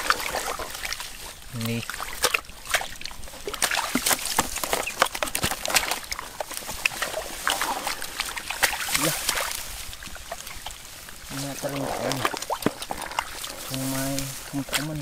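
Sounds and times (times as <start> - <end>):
hands squelching in wet mud: 0.0 - 15.0.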